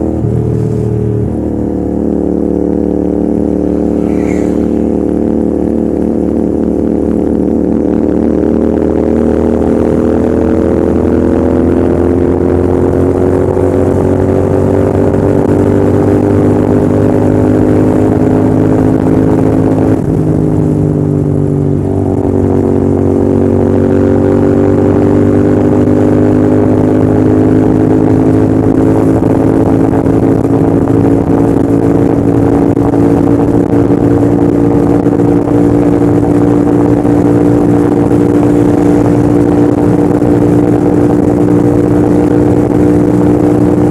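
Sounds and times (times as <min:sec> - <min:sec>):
motorcycle engine revving under throttle: 0:00.0 - 0:43.9.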